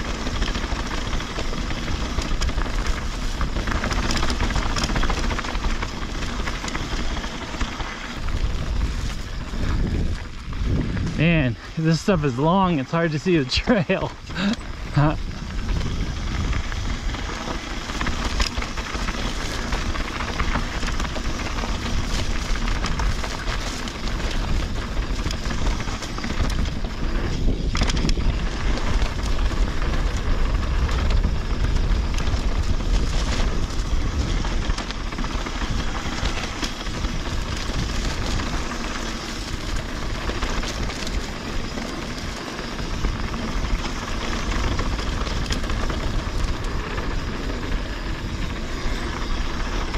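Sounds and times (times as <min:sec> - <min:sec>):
bike clicks and rattles: 0:00.0 - 0:49.9
tyres on dirt: 0:00.0 - 0:49.9
wind rumbling on microphone: 0:00.0 - 0:49.9.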